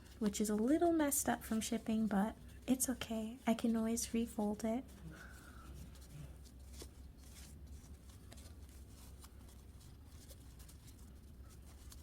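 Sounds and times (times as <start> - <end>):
doll clothes rustling and clicking: 0.0 - 12.0
low steady hum: 0.0 - 12.0.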